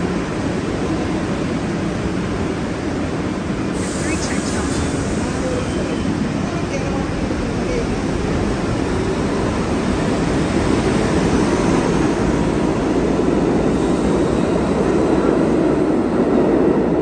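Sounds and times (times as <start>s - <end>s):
subway train running: 0.0s - 17.0s.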